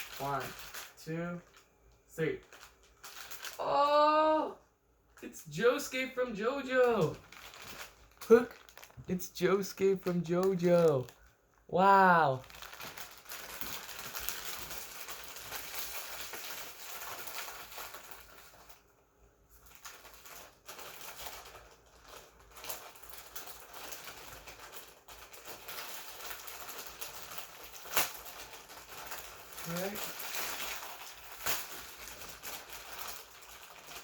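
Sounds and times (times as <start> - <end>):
plastic packaging crinkling: 0.0 - 3.8, 5.7 - 34.0.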